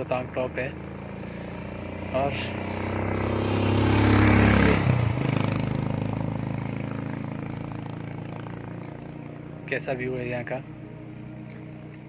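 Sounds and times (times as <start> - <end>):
motor vehicle passing by: 0.0 - 12.0.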